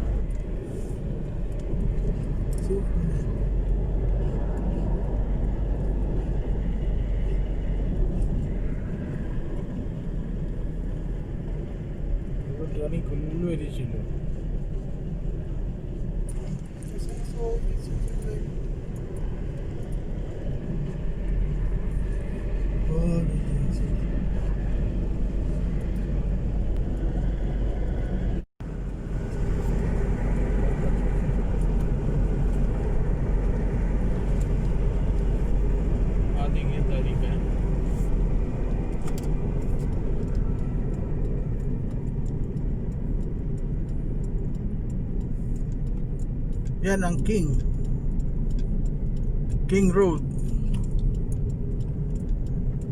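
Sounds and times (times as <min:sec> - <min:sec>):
engine rumbling: 0:00.0 - 0:52.9.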